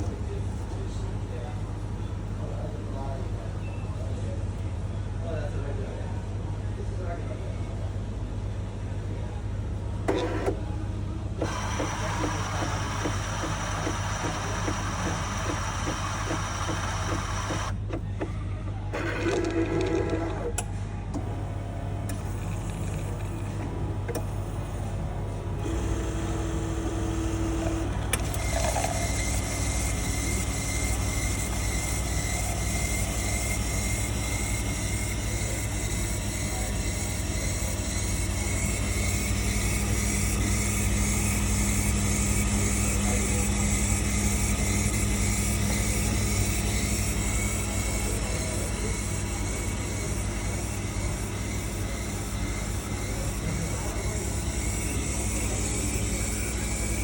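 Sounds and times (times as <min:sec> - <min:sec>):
coffee machine running: 0:08.7 - 0:57.0.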